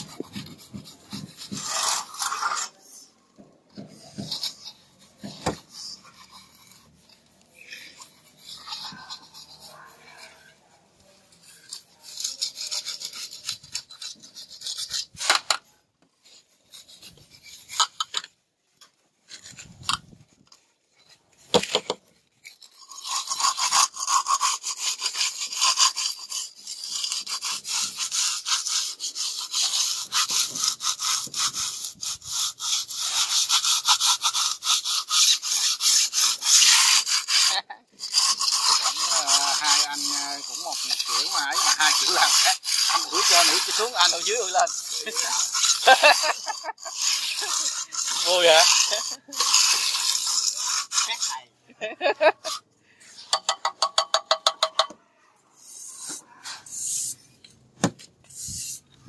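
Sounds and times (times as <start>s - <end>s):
hand tool scraping rough surface: 0.0s - 59.0s.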